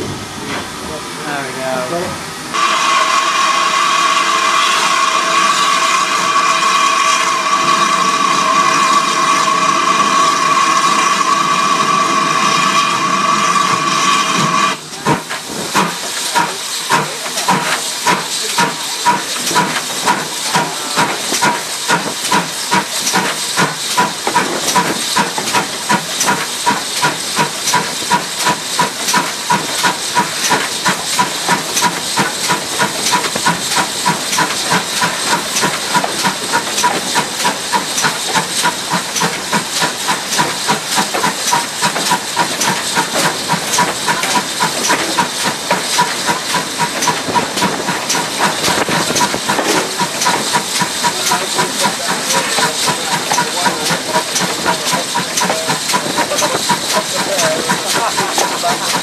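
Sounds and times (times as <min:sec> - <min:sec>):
steam locomotive exhaust beats: 0:00.0 - 0:59.0
steam hiss with whistling tone: 0:02.5 - 0:59.0.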